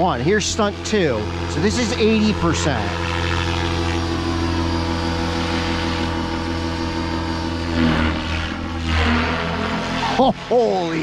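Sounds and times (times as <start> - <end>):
rc helicopter rotor whine: 0.0 - 11.0.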